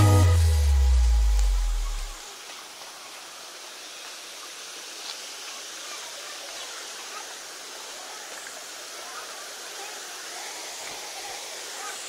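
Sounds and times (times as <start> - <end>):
stream running over rocks: 0.0 - 12.0
waterfall: 0.0 - 12.0.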